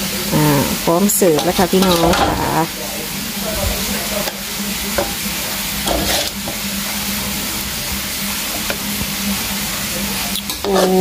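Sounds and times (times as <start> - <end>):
food sizzling in a wok: 0.0 - 11.0
metal ladle scraping wok: 0.6 - 7.7, 8.4 - 11.0.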